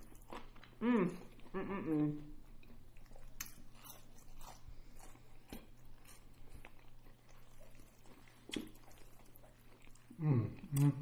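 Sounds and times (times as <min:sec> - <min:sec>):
low steady hum: 0:00.0 - 0:11.0
people chewing: 0:00.0 - 0:11.0.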